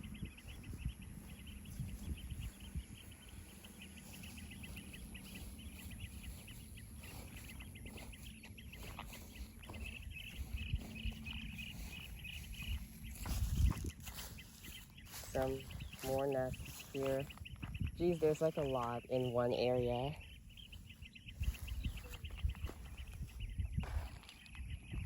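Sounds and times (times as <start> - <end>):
small animals chirping: 0.0 - 23.6
low wind rumble: 0.0 - 25.0.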